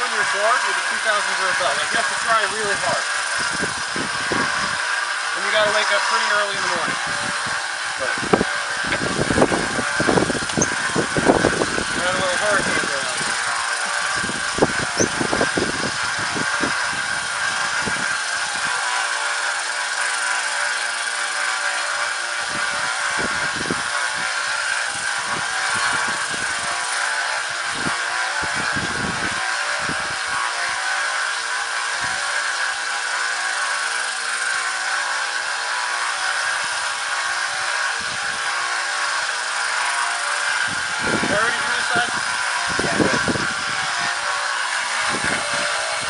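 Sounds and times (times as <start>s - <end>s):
belt grinder whirring: 0.0s - 46.0s.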